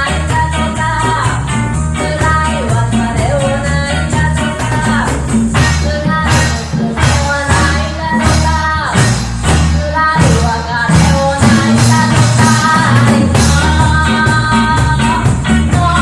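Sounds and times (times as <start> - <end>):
live reggae band: 0.0 - 16.0
person singing: 0.0 - 16.0.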